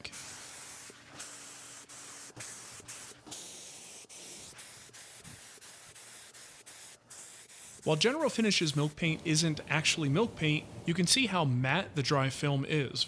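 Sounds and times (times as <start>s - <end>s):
spray gun hissing: 0.0s - 10.9s.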